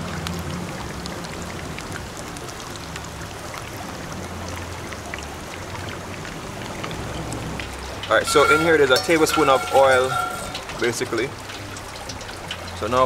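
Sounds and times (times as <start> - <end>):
wood fire hissing and crackling: 0.0 - 13.0.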